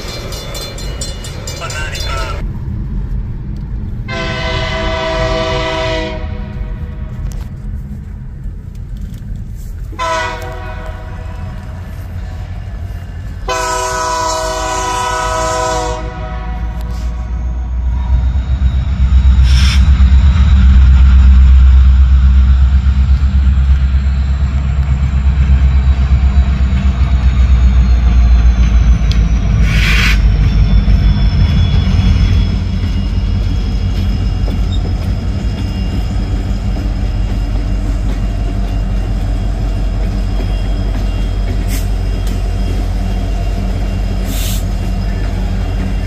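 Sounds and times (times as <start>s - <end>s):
diesel locomotive engine rumble: 0.0s - 46.0s
high whine: 0.0s - 46.0s.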